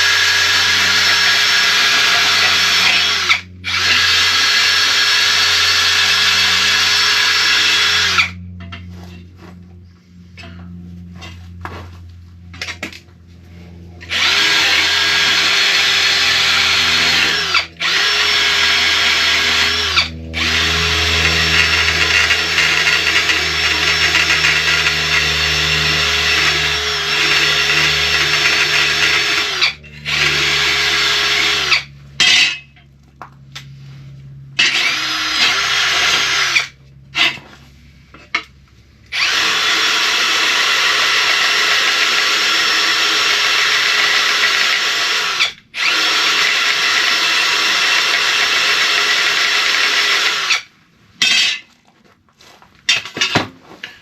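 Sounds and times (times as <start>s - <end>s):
power drill motor whine: 0.0s - 9.1s, 13.8s - 32.7s, 34.2s - 37.5s, 38.4s - 50.7s.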